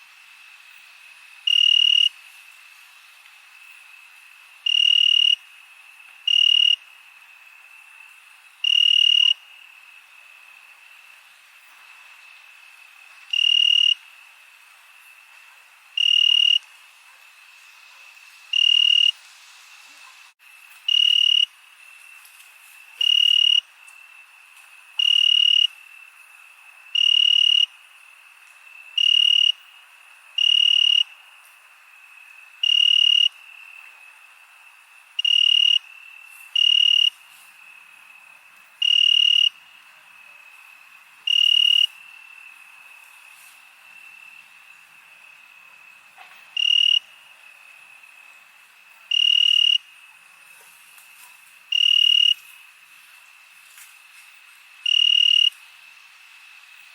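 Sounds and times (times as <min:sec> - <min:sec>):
faint high cricket trill: 0:00.0 - 0:56.9
loud cricket chirping: 0:00.0 - 0:56.9.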